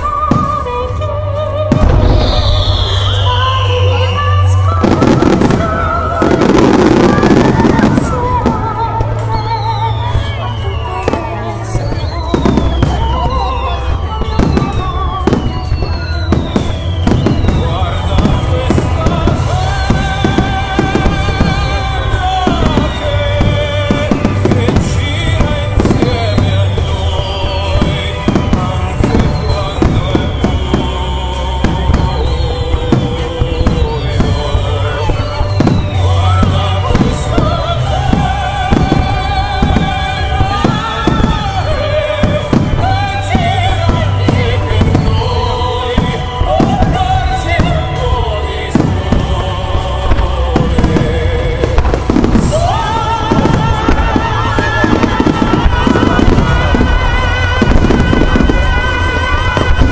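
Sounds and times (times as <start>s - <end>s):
fireworks bursting: 0.0s - 59.9s
fireworks whistling: 0.0s - 59.9s
loud music: 0.0s - 59.9s.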